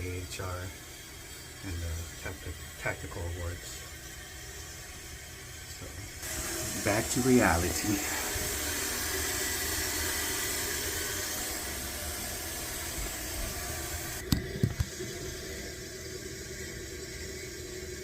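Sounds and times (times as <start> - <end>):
toilet tank refilling hiss: 0.0 - 18.0.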